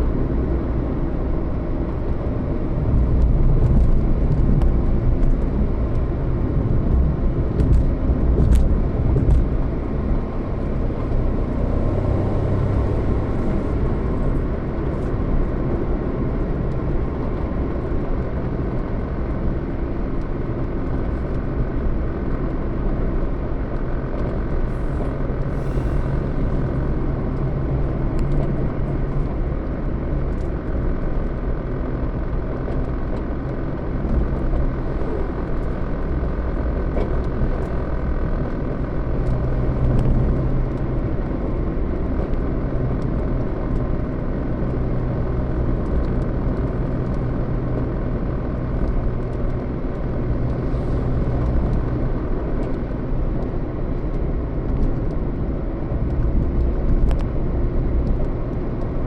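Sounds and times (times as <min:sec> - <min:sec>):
road rumble: 0:00.0 - 0:59.0
vehicle engine hum: 0:00.0 - 0:59.0.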